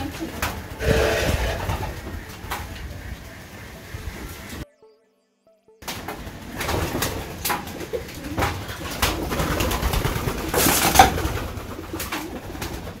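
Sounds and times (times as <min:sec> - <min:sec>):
pigeon wings flapping: 0:00.0 - 0:04.6, 0:05.8 - 0:13.0
pigeons cooing: 0:00.0 - 0:04.6, 0:05.8 - 0:13.0.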